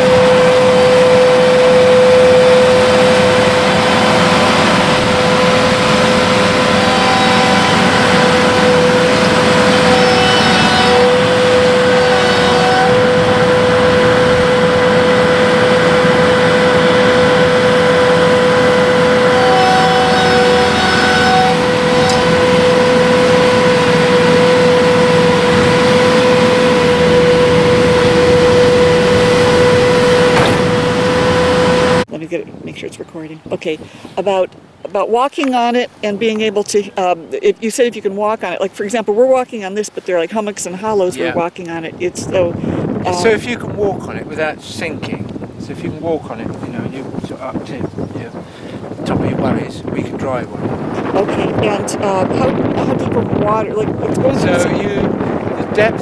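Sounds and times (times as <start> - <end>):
harvester engine whining: 0.0 - 56.0
higher machine whine: 0.0 - 56.0.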